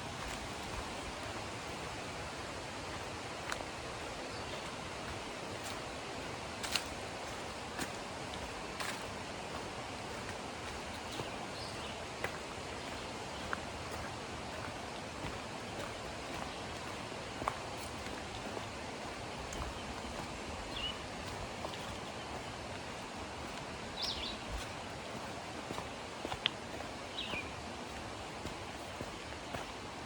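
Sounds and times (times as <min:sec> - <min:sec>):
footsteps on a trail: 0:00.0 - 0:30.0
river water rushing: 0:00.0 - 0:30.0.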